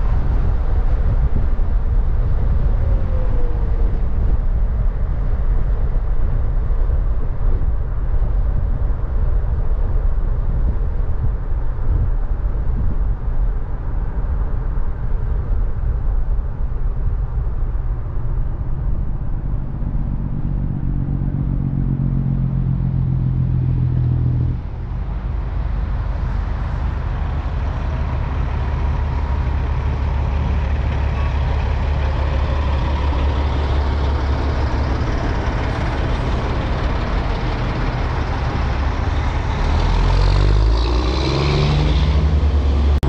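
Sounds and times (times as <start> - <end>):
car engine rumbling with loud exhaust: 0.0 - 43.0.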